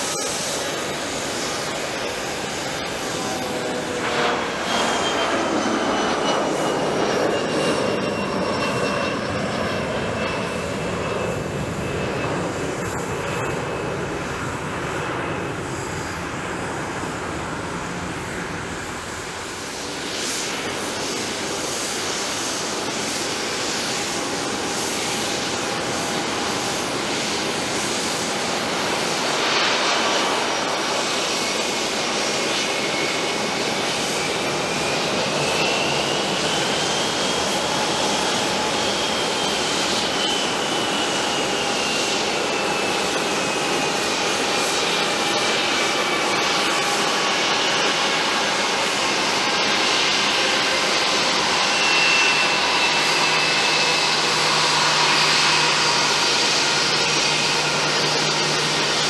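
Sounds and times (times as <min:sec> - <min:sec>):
high engine whine: 0:00.0 - 0:59.0
jet engines roaring: 0:00.0 - 0:59.0.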